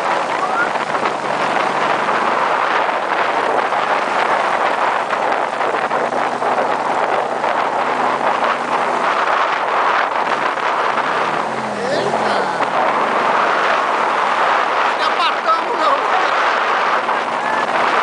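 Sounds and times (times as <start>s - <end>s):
road noise: 0.0s - 18.0s
wind hiss on microphone: 0.0s - 18.0s.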